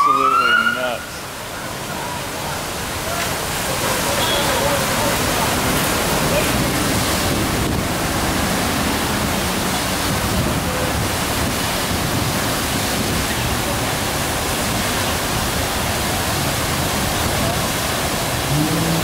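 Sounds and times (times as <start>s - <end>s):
water blasting from fire hydrant: 0.0s - 19.0s.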